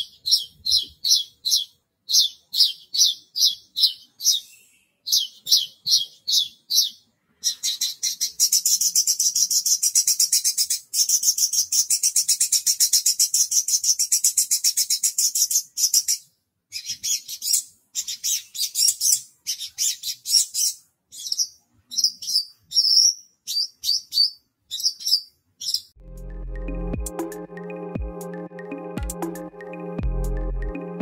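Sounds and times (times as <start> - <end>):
bird chirps: 0.0 - 26.0
bird singing rapid trill: 0.0 - 26.0.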